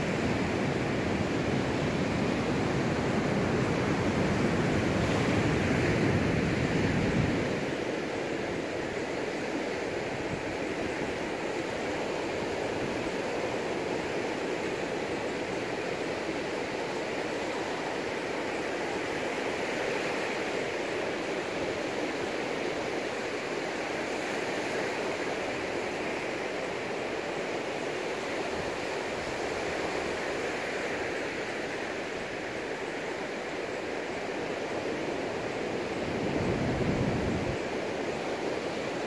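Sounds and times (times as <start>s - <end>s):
sea surf breaking on beach: 0.0s - 39.0s.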